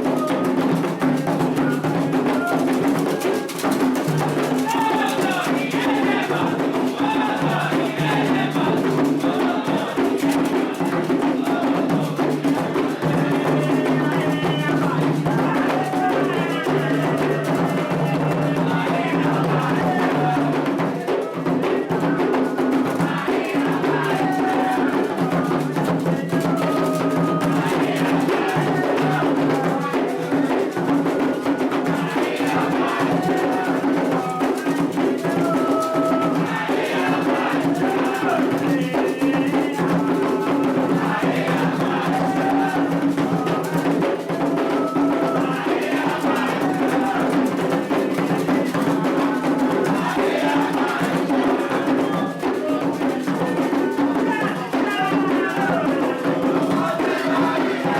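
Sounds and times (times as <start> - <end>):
hand drums playing rhythm: 0.0 - 57.9.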